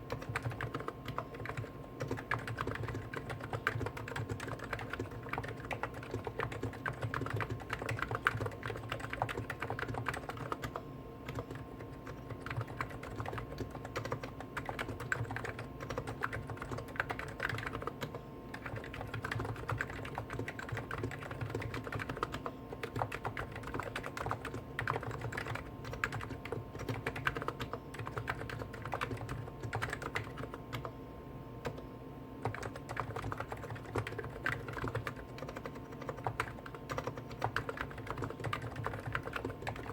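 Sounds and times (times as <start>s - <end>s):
rapid keyboard typing: 0.0s - 31.0s, 31.6s - 31.8s, 32.4s - 39.9s
steady hum: 0.0s - 39.9s.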